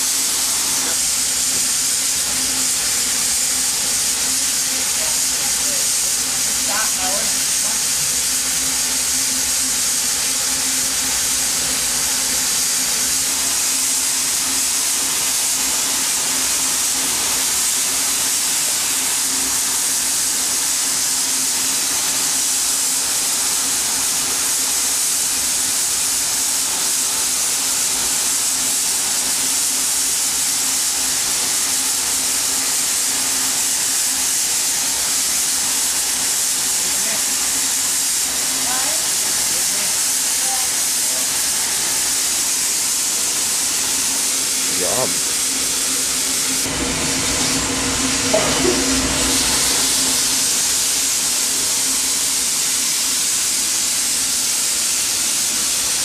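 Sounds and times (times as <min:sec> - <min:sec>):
steam locomotive hissing steam: 0:00.0 - 0:56.0.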